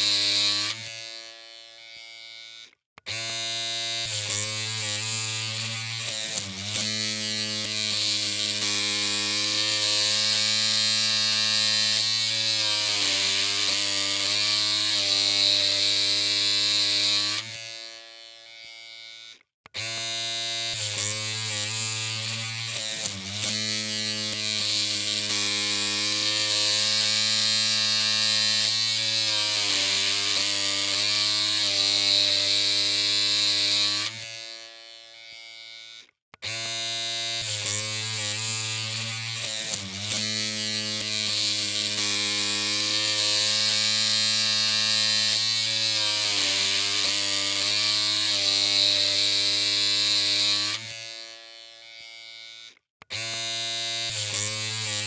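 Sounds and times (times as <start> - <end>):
electric hair clippers buzzing: 0.0 - 55.0.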